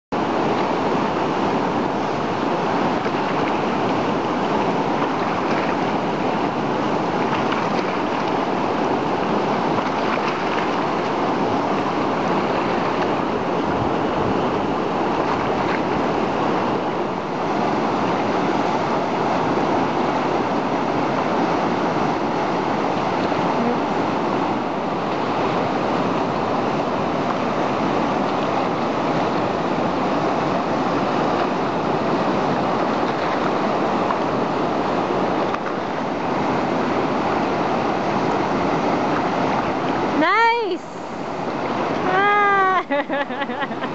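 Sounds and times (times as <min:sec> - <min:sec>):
river rapid rushing: 0:00.2 - 0:43.9.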